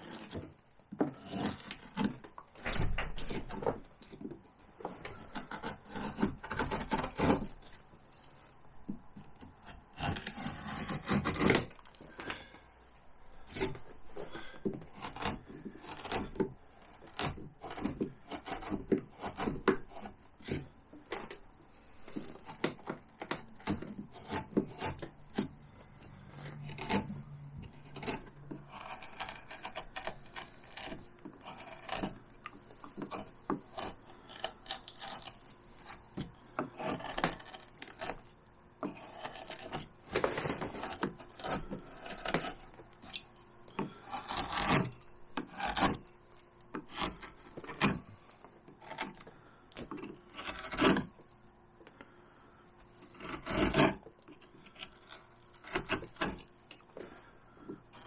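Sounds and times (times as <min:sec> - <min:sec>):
carving gouge scraping bark: 0:00.0 - 0:02.4, 0:04.8 - 0:08.3, 0:09.0 - 0:12.5, 0:13.3 - 0:20.9, 0:21.6 - 0:51.4, 0:52.8 - 0:58.0.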